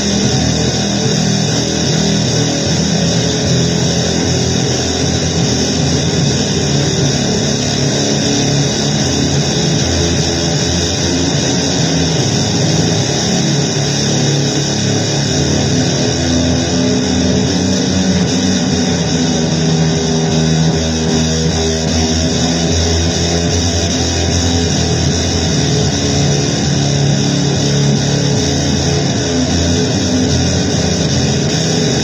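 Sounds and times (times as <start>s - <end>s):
harsh distorted noise music: 0.0s - 32.0s.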